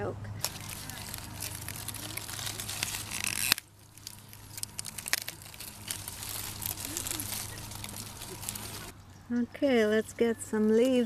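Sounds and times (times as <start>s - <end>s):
leaves and dry stalks rustling: 0.3s - 11.0s.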